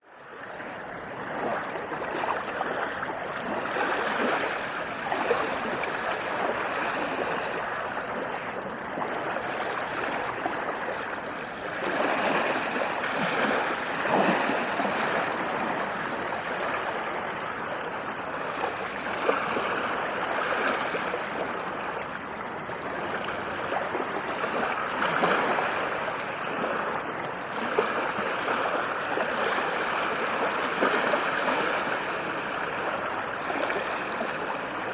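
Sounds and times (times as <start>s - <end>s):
ocean waves washing in: 0.2s - 34.9s.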